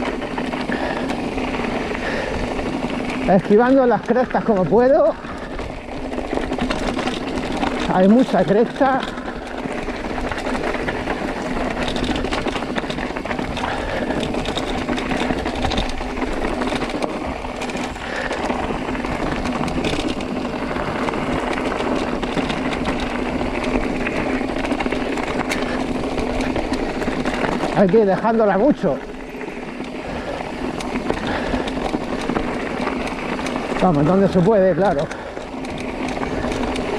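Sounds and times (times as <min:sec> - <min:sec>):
bike rattling over rocks: 0:00.0 - 0:36.9
bike tyres rolling over stones: 0:00.0 - 0:36.9.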